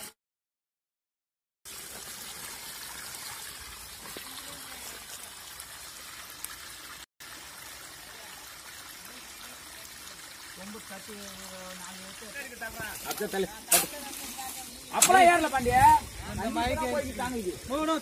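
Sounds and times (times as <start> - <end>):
shallow water trickling: 1.7 - 18.0.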